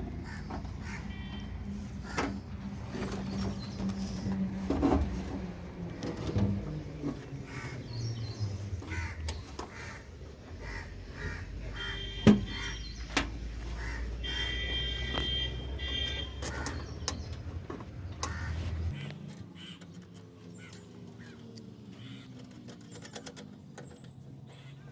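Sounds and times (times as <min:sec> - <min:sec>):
birds calling: 0:00.0 - 0:04.6, 0:06.9 - 0:24.9.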